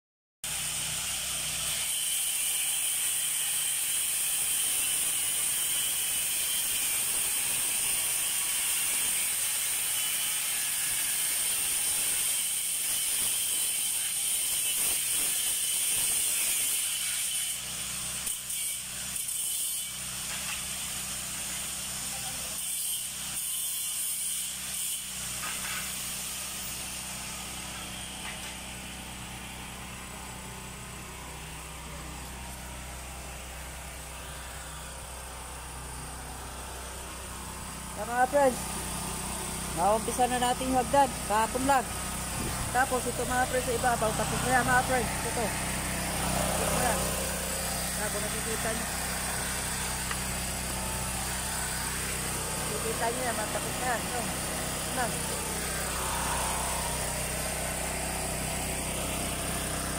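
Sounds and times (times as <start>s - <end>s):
angle grinder cutting tiles: 1.2s - 29.0s, 38.0s - 59.9s.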